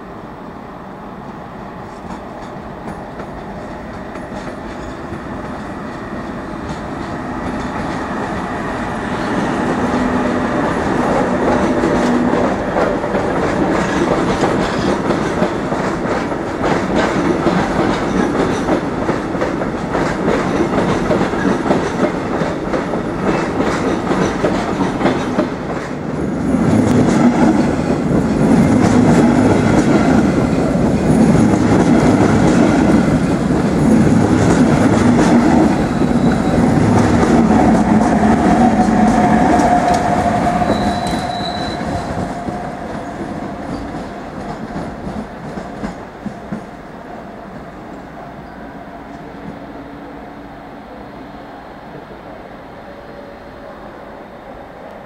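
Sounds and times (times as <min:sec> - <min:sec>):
train wheels clacking: 0:01.9 - 0:46.8.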